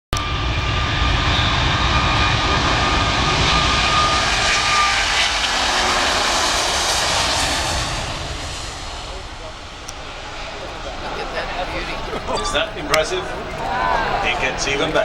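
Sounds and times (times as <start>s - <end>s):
aircraft engines flying past: 0.2s - 15.0s
thin engine whine: 0.2s - 15.0s.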